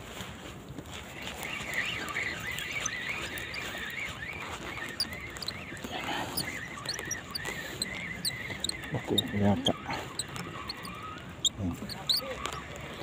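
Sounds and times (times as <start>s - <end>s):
small birds warbling: 1.2s - 13.0s
high bird chirps: 1.4s - 12.5s.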